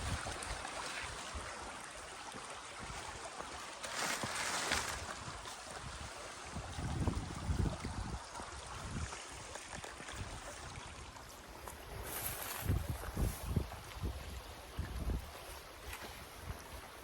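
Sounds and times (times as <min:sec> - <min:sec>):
stream water babbling: 0:00.0 - 0:17.0.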